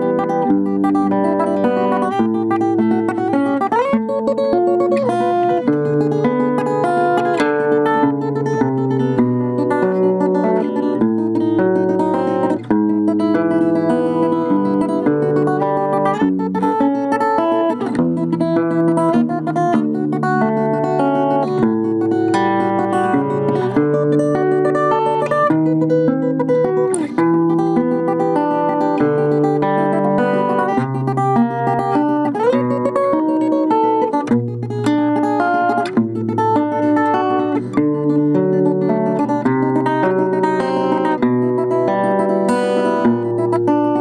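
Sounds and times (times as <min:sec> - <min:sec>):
acoustic guitar plucked melody: 0:00.0 - 0:44.0.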